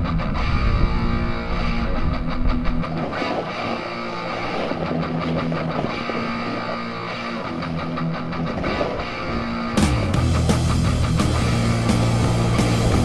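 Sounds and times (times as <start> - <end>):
heavy rock music: 0.0 - 13.0.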